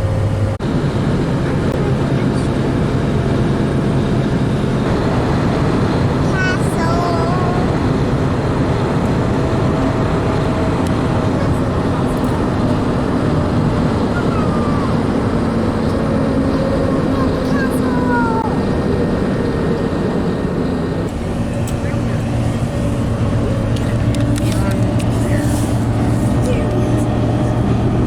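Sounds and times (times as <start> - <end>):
truck road and engine noise: 0.0 - 28.0.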